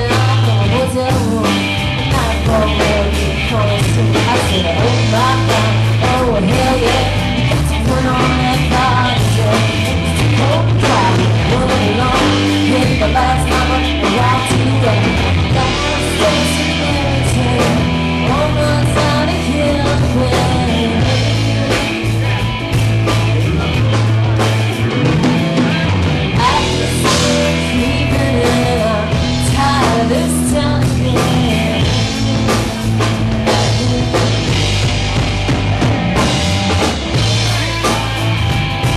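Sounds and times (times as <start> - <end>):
person singing: 0.0 - 24.1, 25.6 - 34.9
bass guitar: 0.0 - 38.9
drum kit: 0.0 - 38.9
electric guitar: 0.0 - 38.9.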